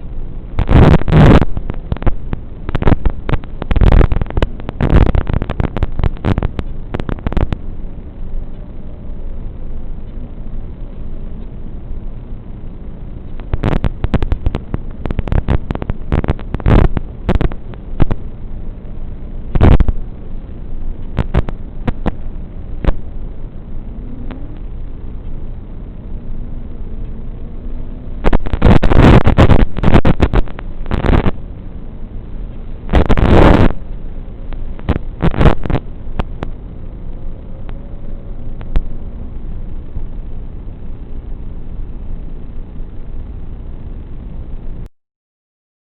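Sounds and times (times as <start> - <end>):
faint motor whine: 0.0 - 44.9.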